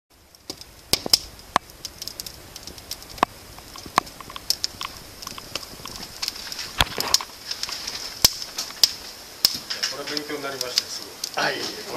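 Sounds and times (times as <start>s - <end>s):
fire hissing: 0.1s - 11.9s
wood fire crackling and popping: 0.1s - 11.9s.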